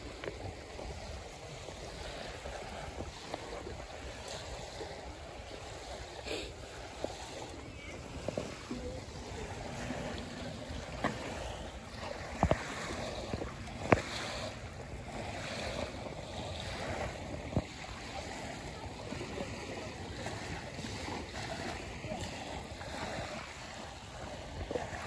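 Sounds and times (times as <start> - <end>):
small waves lapping on shore: 0.0 - 25.0
wind on microphone: 0.0 - 25.0.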